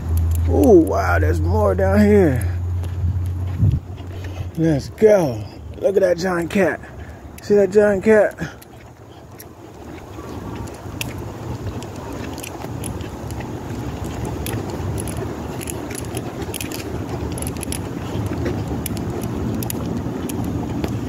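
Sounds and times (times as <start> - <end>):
low street rumble: 0.0 - 21.0
dog leash jingling: 0.2 - 21.0.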